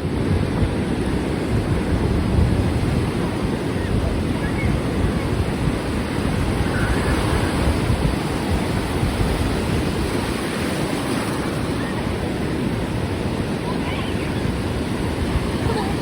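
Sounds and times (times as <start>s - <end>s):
ocean surf washing on beach: 0.0s - 16.0s
wind buffeting microphone: 0.0s - 16.0s.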